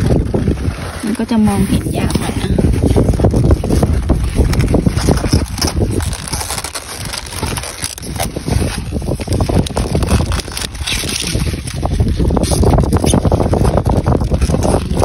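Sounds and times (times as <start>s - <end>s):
leaves rustling: 0.0s - 15.0s
wind buffeting microphone: 0.0s - 15.0s.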